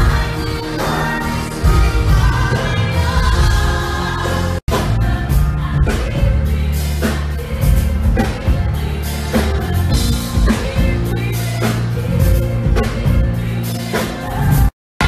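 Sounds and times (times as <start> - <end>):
live pop music: 0.0 - 14.8.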